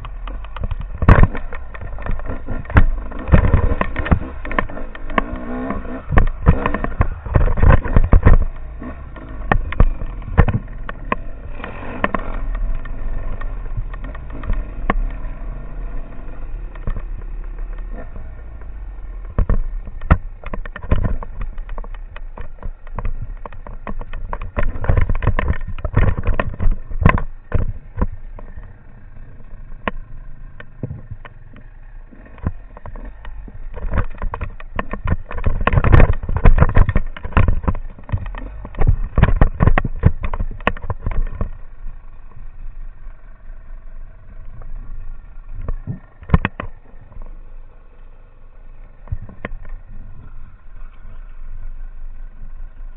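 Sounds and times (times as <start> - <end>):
knocks and jolts over rough ground: 0.0 - 52.9
motorcycle engine running: 0.0 - 52.9.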